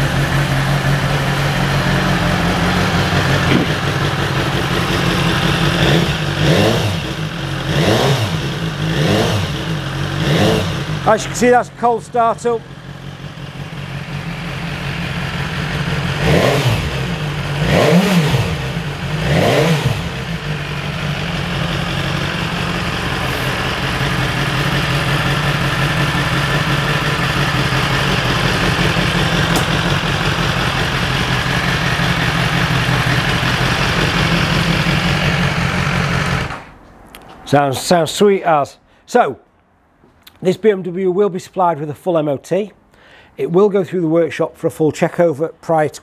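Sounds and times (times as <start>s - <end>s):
motorcycle engine revving and idling: 0.0s - 37.3s.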